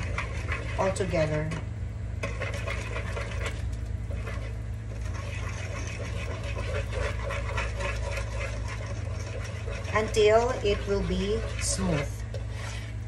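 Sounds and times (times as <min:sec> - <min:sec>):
utensil scraping a bowl: 0:00.0 - 0:01.6, 0:02.2 - 0:13.0
steady low hum: 0:00.0 - 0:13.0.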